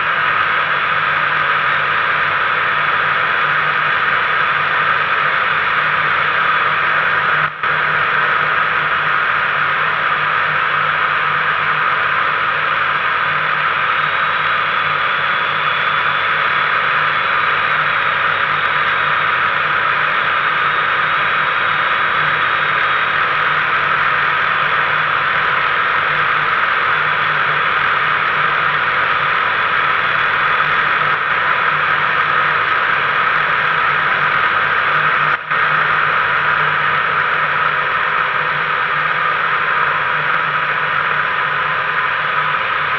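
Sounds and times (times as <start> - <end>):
engine droning: 0.0 - 42.9.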